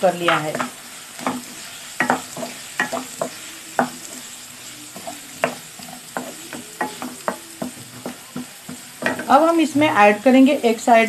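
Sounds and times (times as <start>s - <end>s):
onions sizzling in oil: 0.0s - 11.0s
wooden spatula scraping a pan: 0.2s - 10.0s.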